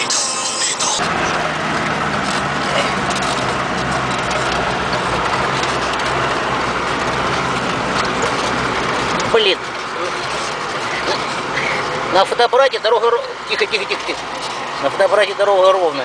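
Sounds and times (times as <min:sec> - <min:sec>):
tyre and road noise: 0:00.0 - 0:16.0
vehicle engine running: 0:00.0 - 0:16.0.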